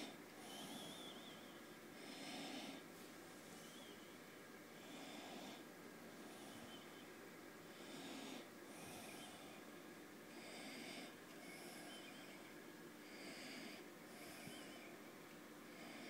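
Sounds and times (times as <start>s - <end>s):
faint breathing: 0.0s - 4.1s, 4.8s - 7.0s, 7.7s - 9.7s, 10.3s - 15.0s, 15.6s - 16.0s
faint steady hum: 0.0s - 16.0s.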